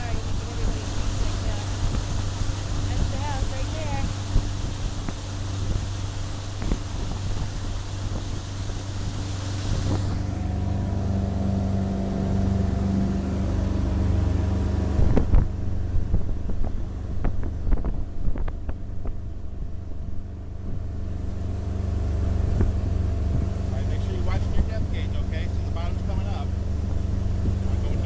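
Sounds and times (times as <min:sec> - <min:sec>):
wind on microphone: 0:00.0 - 0:13.4, 0:14.4 - 0:25.0, 0:26.0 - 0:28.0
motorboat engine running: 0:00.0 - 0:28.0.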